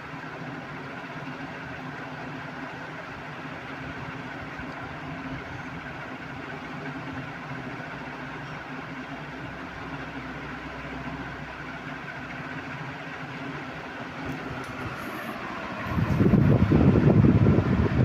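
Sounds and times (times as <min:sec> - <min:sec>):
ceiling fan motor hum: 0:00.0 - 0:18.0
rush of air from fan blades: 0:00.0 - 0:18.0.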